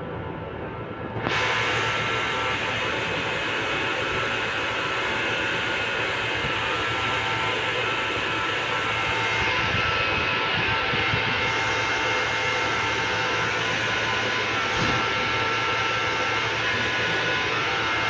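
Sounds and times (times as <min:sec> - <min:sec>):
machine running with high whine: 0:00.0 - 0:18.0.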